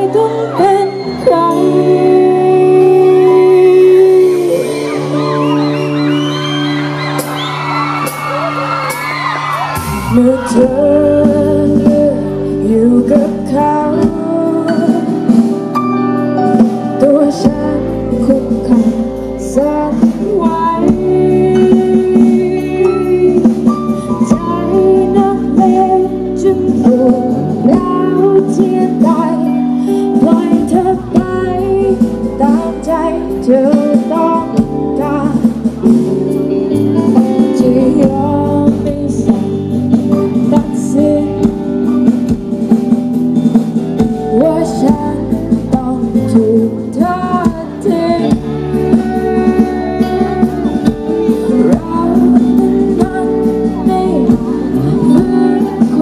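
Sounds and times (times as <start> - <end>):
woman singing: 0.0 - 6.9, 9.7 - 42.5, 44.0 - 56.0
bass guitar: 0.0 - 56.0
drums: 0.0 - 56.0
electric guitar chords: 0.0 - 56.0.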